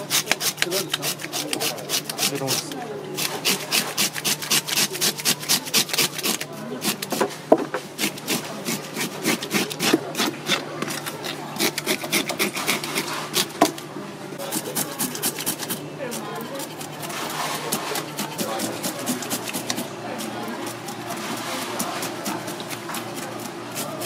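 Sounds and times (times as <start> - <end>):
fish scaler scraping scales: 0.0 - 7.2, 8.0 - 13.8, 14.4 - 24.0.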